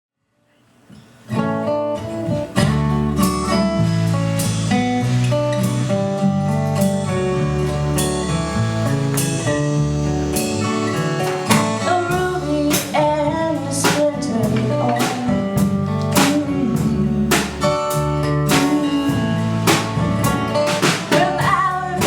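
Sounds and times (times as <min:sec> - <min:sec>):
guitars: 0:00.6 - 0:22.0
drum kit beat: 0:02.2 - 0:22.0
live band playing: 0:02.2 - 0:22.0
wavering lead melody: 0:02.8 - 0:20.6.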